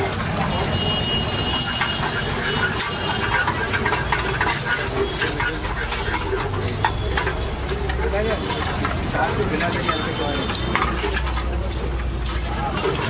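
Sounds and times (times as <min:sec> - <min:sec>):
food sizzling in a frying pan: 0:00.0 - 0:13.0
spatula scraping a pan: 0:00.0 - 0:13.0.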